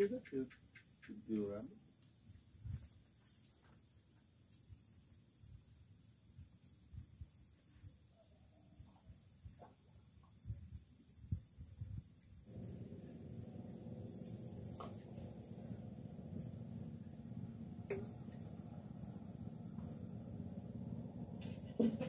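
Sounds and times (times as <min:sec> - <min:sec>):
faint insects chirping: 0:00.0 - 0:22.0.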